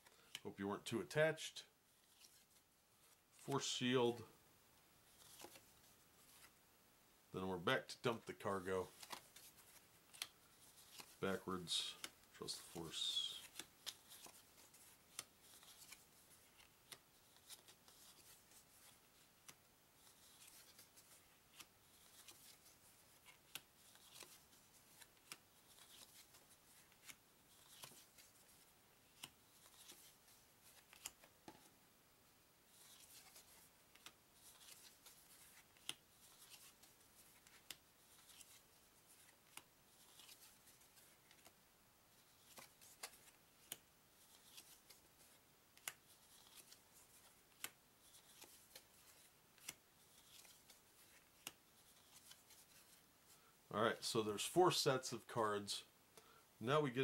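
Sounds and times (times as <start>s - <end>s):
cards sliding: 2.0s - 3.5s, 5.1s - 6.6s, 8.9s - 31.7s, 32.7s - 53.4s.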